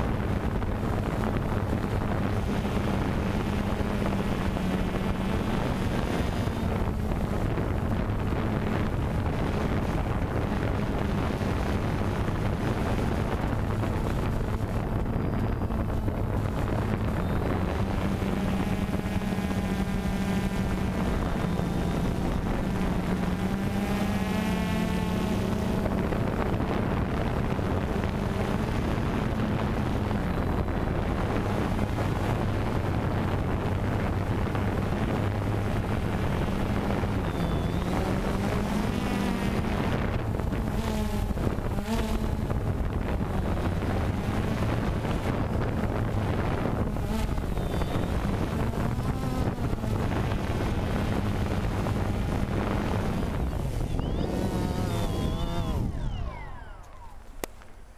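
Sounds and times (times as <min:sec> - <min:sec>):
quadcopter rotors droning: 0:00.0 - 0:57.9
wind noise from propeller wash: 0:00.0 - 0:57.9.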